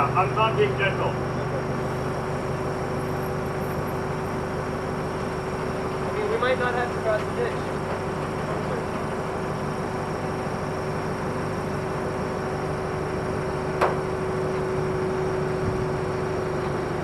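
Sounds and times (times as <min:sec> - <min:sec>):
forklift engine running: 0:00.0 - 0:17.0.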